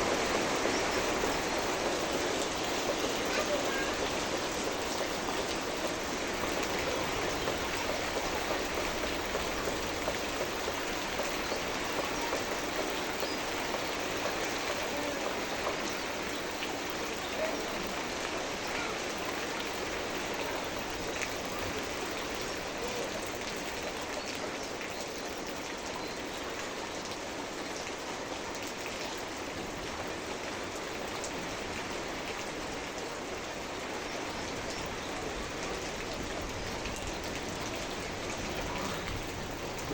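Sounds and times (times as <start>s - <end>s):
raindrops ticking: 0.0s - 29.4s, 32.2s - 39.9s
rain falling: 0.0s - 39.9s.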